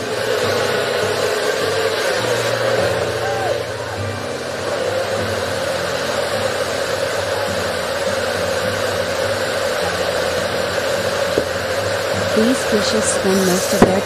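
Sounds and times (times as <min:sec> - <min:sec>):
steady hissing rush: 0:00.0 - 0:14.0.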